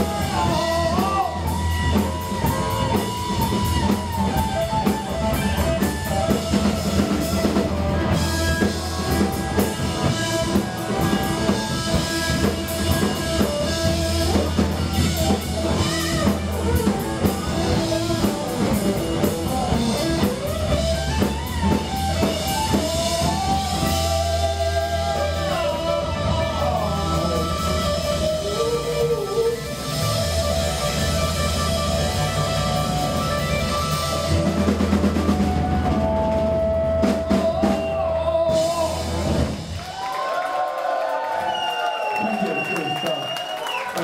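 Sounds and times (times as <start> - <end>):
electric guitar: 0.0 - 40.1
drum kit: 0.0 - 40.6.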